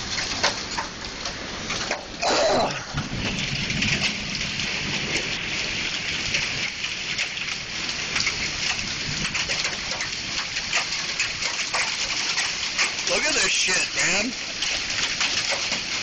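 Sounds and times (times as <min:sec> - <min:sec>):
hailstones striking: 0:00.0 - 0:16.0
rain hissing: 0:00.0 - 0:16.0.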